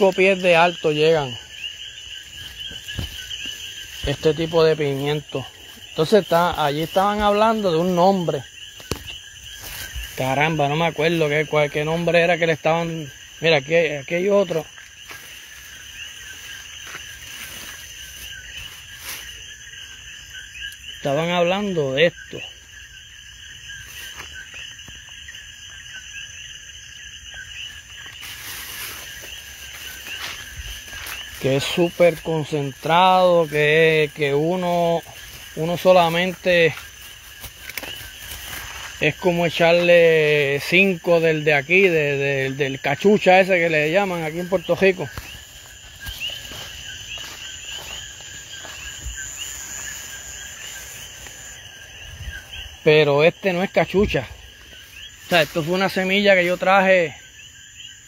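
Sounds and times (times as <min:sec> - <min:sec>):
crickets chirping: 0:00.0 - 0:58.0
frogs calling: 0:00.0 - 0:58.0
high insect hum: 0:00.0 - 0:58.0.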